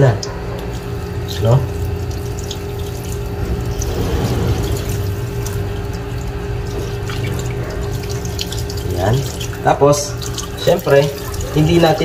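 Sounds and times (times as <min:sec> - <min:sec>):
tap water running into sink: 0:00.8 - 0:12.0.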